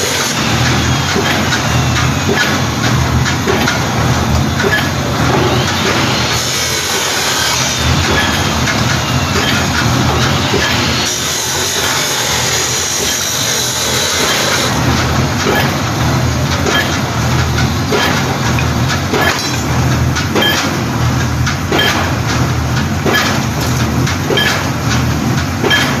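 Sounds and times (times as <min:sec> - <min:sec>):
rig engine running: 0:00.0 - 0:26.0
sharp knocks and clanks: 0:00.0 - 0:26.0.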